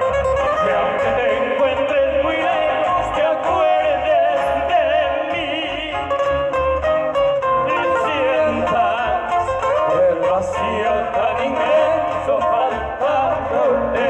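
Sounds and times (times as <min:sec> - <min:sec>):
acoustic guitars: 0:00.0 - 0:14.0
men singing in harmony: 0:00.6 - 0:06.4, 0:07.6 - 0:14.0.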